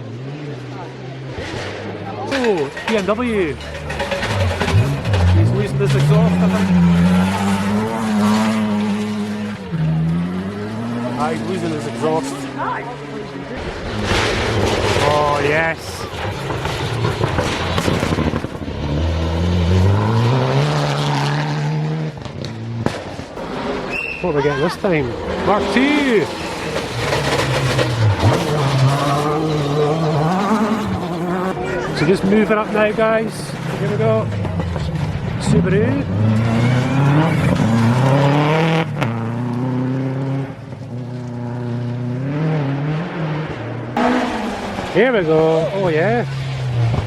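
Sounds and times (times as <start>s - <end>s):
rally car engine accelerating: 0.0s - 47.0s
engine crackling: 0.5s - 47.0s.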